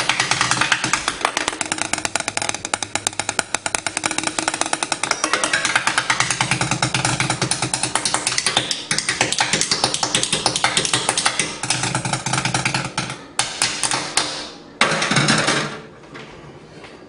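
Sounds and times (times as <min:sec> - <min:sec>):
chopsticks drumming on pots: 0:00.0 - 0:14.5.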